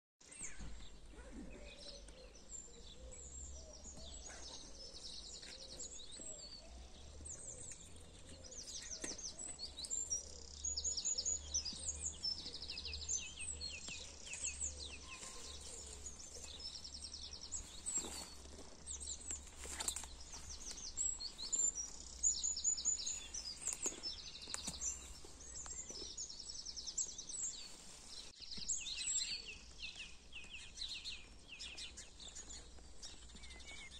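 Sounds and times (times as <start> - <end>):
songbirds singing: 0.2 - 33.9.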